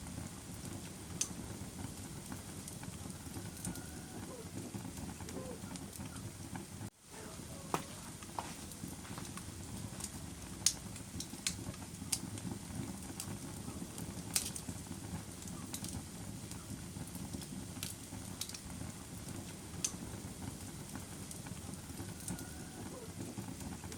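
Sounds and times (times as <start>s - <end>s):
fire crackling in a fireplace: 0.0s - 23.9s.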